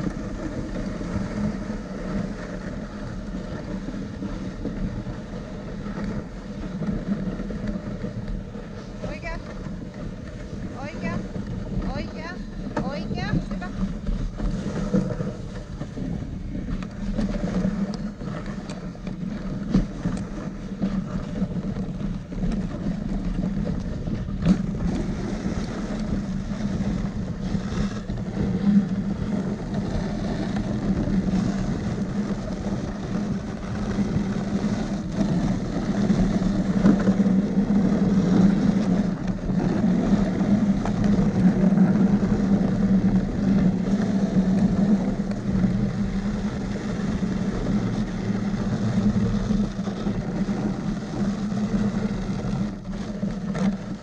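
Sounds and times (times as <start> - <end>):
dog sled running over snow: 0.0 - 54.0.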